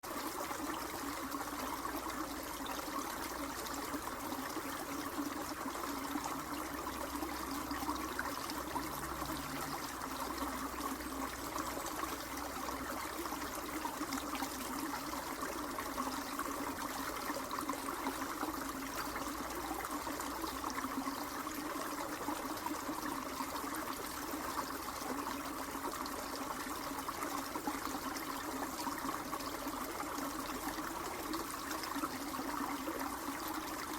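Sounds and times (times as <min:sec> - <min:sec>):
trickling stream: 0:00.0 - 0:33.9.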